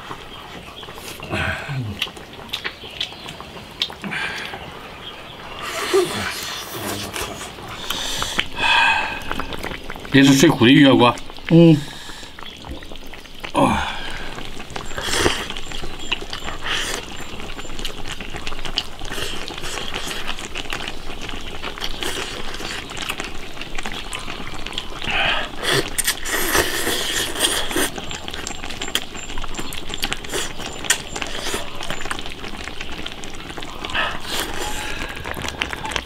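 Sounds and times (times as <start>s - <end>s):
chewing: 0.0s - 4.8s, 5.5s - 10.2s, 12.2s - 36.0s
soup bubbling with small pops: 0.0s - 36.0s.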